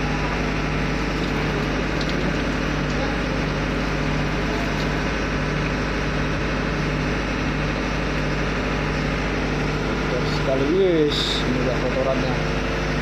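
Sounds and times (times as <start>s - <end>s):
ship machinery droning: 0.0s - 13.0s.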